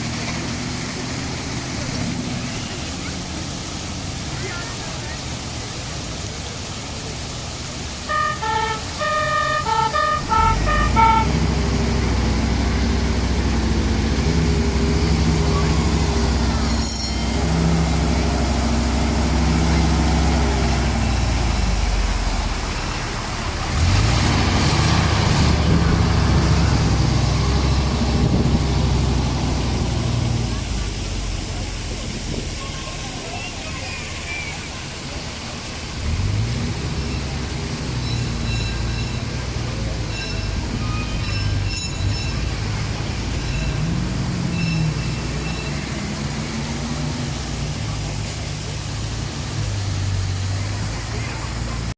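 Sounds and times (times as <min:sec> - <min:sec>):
fire engine engine running: 0:00.0 - 0:51.9.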